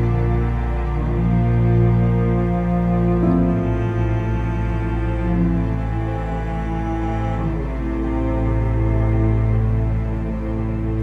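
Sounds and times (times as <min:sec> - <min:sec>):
dark low music tones: 0:00.0 - 0:11.0.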